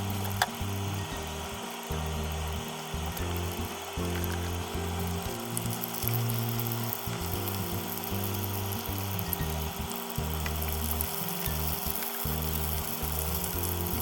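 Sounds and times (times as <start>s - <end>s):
background music: 0.0s - 14.0s
food sizzling in hot oil: 0.0s - 14.0s.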